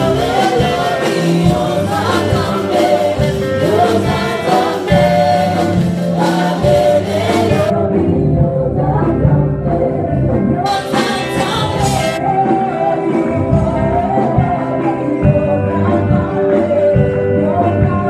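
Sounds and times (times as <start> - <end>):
choir singing: 0.0 - 18.0
live band playing: 0.0 - 18.0
woman singing lead: 0.0 - 18.0.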